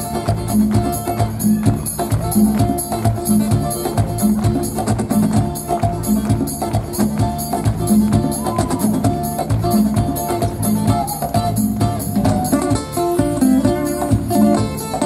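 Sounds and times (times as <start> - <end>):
acoustic guitar: 0.0 - 15.0
congas: 0.0 - 15.0
electric bass: 0.0 - 15.0.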